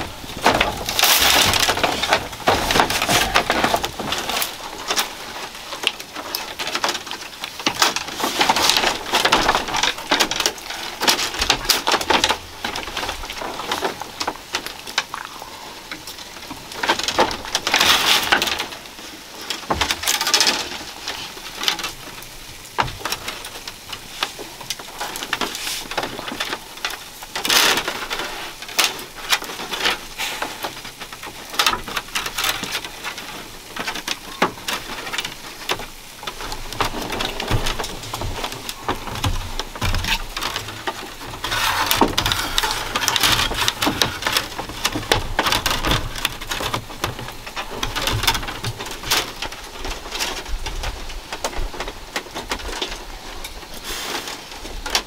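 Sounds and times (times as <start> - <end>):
bamboo strips clicking and swishing: 0.0 - 55.0.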